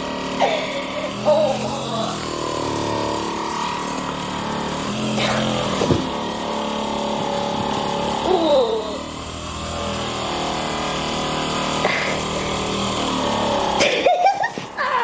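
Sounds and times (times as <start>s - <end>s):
massage gun motor buzz: 0.0s - 15.0s.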